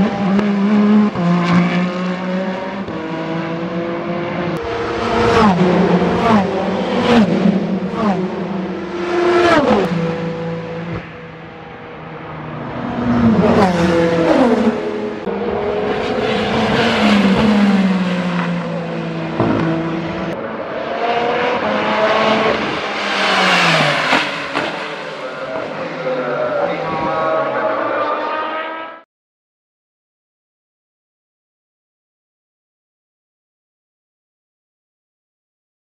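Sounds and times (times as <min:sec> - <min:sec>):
race cars passing at speed: 0:00.0 - 0:29.0.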